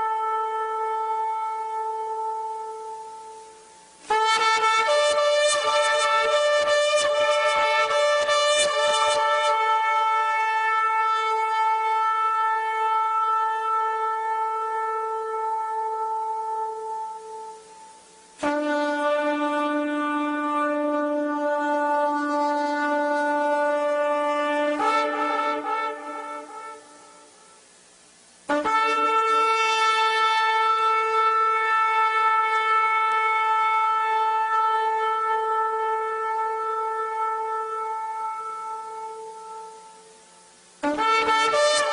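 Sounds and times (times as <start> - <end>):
ram's horn long note: 0.0 - 41.9
shofar long blast: 0.0 - 41.9.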